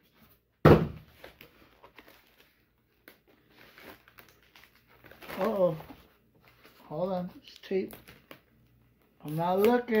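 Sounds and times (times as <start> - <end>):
package rustling and crinkling: 1.0 - 10.0.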